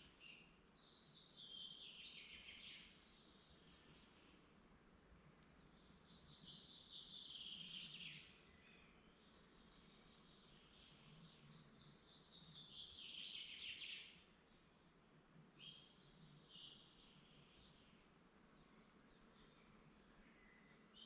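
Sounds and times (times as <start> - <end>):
faint steady hiss: 0.0 - 21.0
songbird singing: 0.0 - 21.0.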